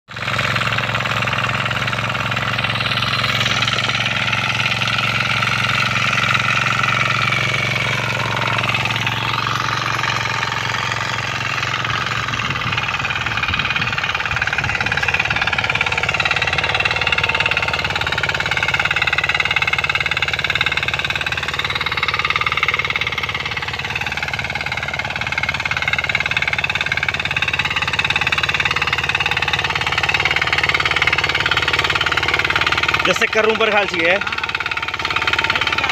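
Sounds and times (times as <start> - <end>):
diesel weeder engines running: 0.1 - 35.9.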